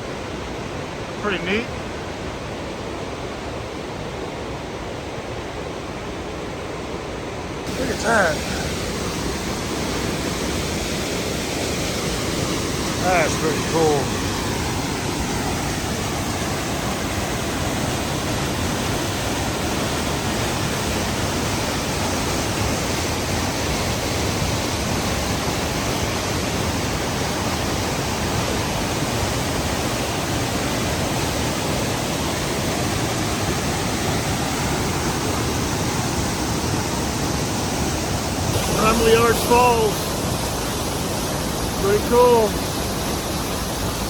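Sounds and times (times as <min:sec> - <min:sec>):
small waterfall rushing: 0:07.6 - 0:44.0.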